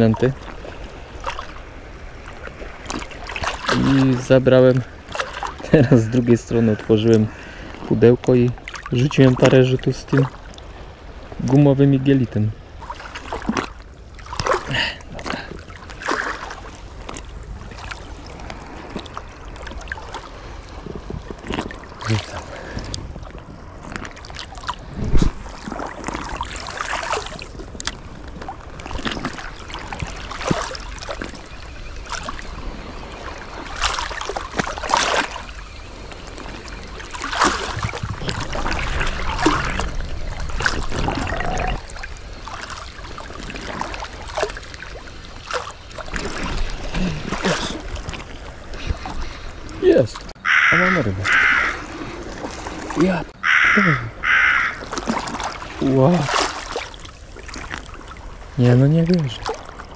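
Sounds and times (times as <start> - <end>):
sea water splashing and lapping: 0.0 - 59.9.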